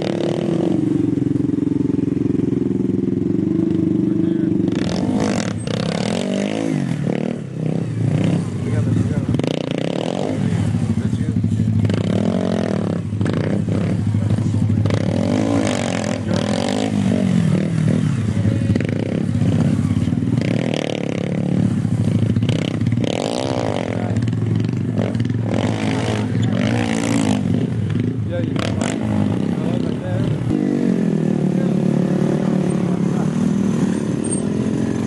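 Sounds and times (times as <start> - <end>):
small motorbike engine revving: 4.1 - 35.0.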